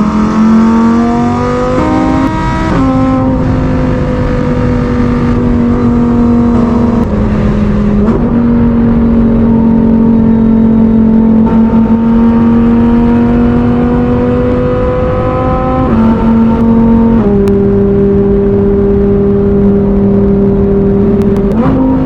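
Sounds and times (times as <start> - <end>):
loud sports car engine running: 0.0 - 22.0.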